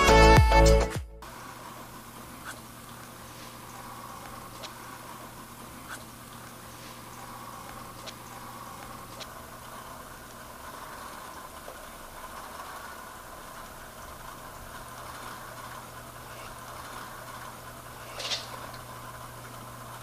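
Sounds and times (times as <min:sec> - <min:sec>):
aquarium equipment humming: 0:01.2 - 0:20.0.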